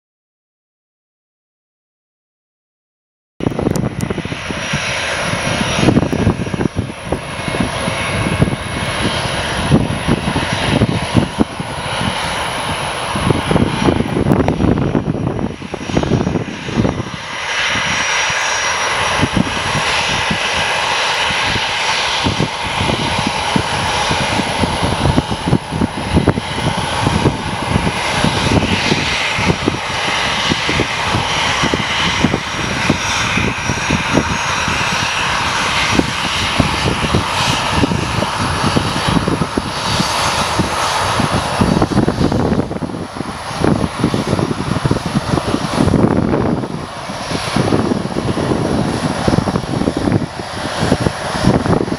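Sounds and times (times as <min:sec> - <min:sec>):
jet engines hissing and whining: 0:03.4 - 0:51.9.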